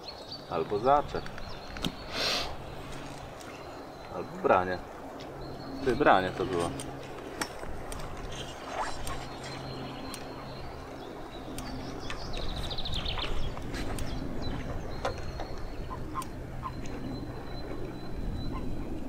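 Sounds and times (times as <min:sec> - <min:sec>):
low steady hum: 0:00.0 - 0:19.0
songbird trill: 0:00.0 - 0:19.0.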